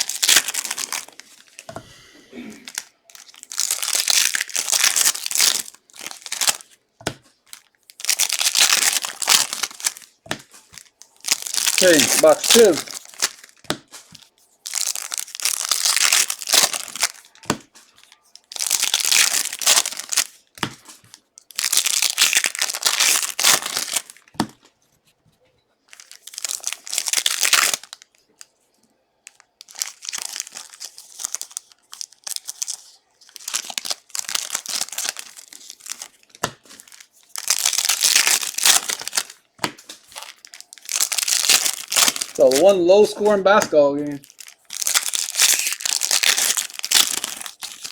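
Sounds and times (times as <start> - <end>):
foil wrappers ripping and crinkling: 0.0 - 1.7, 2.4 - 24.4, 25.9 - 28.5, 29.3 - 47.9.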